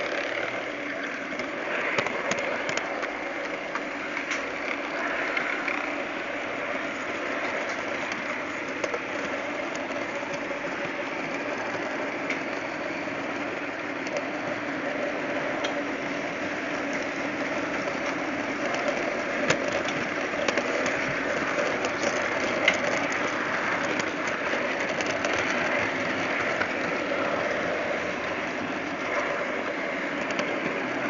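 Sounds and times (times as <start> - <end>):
model train motor whirring: 0.0 - 31.0
wheels rattling on track: 0.0 - 31.0.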